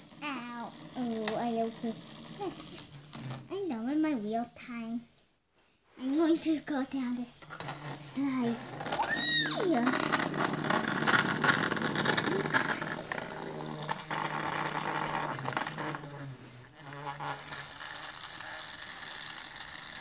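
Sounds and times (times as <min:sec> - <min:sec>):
toy motor buzzing and rattling: 0:00.0 - 0:03.6, 0:07.0 - 0:20.0.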